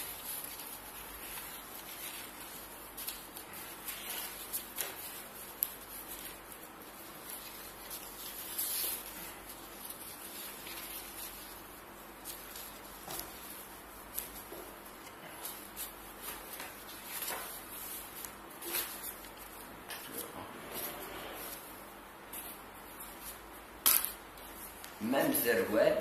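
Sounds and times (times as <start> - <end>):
paper rustling: 0.0 - 21.7.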